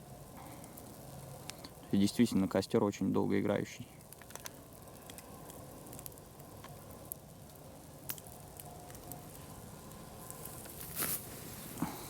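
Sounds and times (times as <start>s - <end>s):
log fire crackling: 0.0s - 12.0s.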